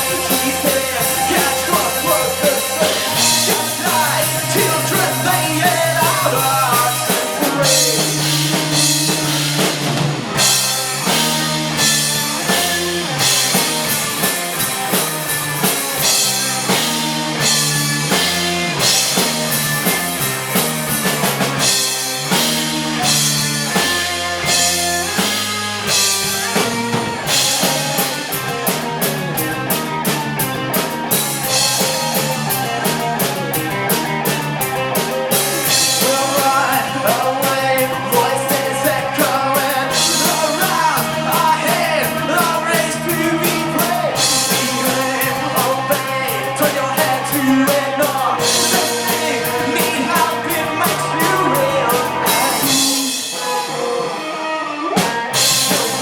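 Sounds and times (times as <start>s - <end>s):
rapid drum strokes: 0.0s - 56.0s
rock band playing: 0.0s - 56.0s.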